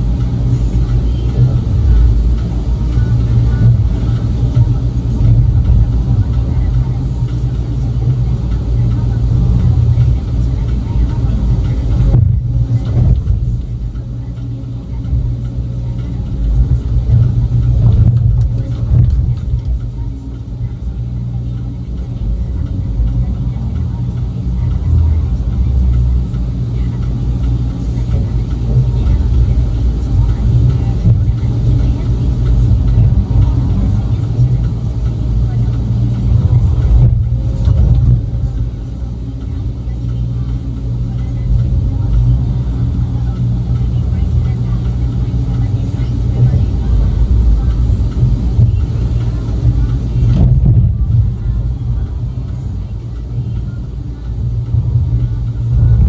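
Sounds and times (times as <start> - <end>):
heavy equipment engine drone: 0.0 - 56.0.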